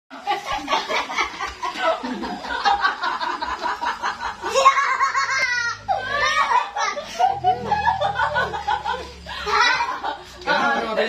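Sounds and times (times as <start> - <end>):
children laughing and giggling: 0.1 - 11.0.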